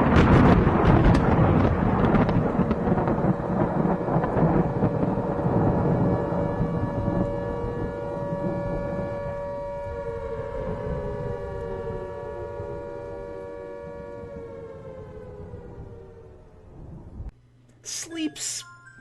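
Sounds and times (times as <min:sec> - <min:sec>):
thunder crack and rumble: 0:00.0 - 0:17.4.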